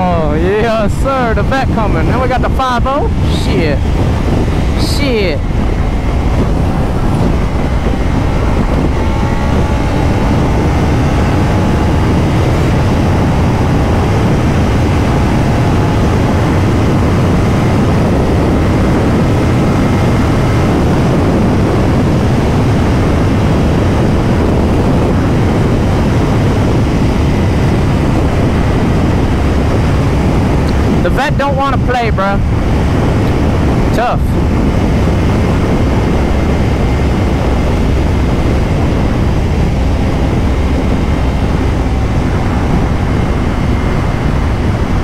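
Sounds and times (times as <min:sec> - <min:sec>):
motorcycle engine: 0:00.0 - 0:31.1, 0:32.2 - 0:45.0
wind rush over microphone: 0:00.0 - 0:45.0.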